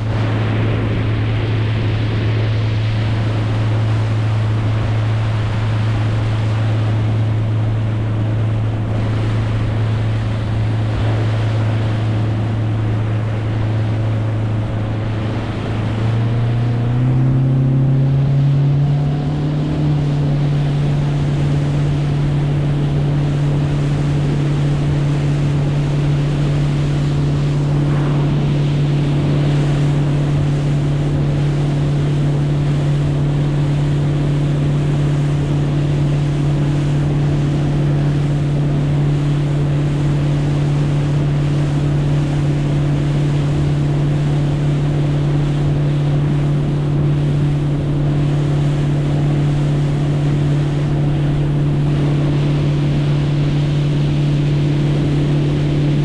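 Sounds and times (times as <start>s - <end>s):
boat motor running: 0.0s - 56.0s
water noise: 0.0s - 56.0s
wind noise: 0.0s - 56.0s.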